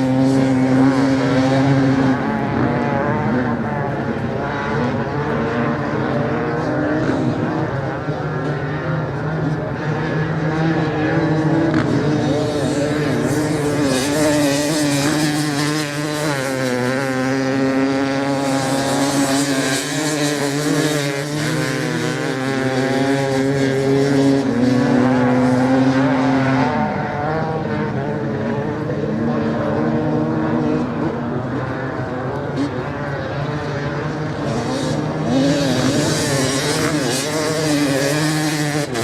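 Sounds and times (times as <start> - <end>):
motorcycle engines racing: 0.0 - 39.0.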